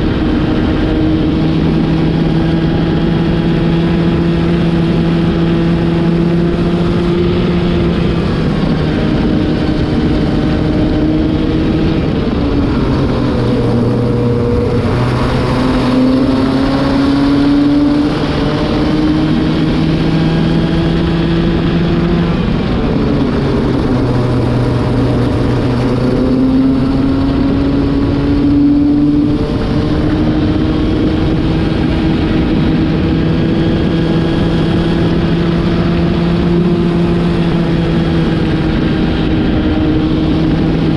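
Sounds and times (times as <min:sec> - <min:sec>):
racing kart engine: 0:00.0 - 0:40.9.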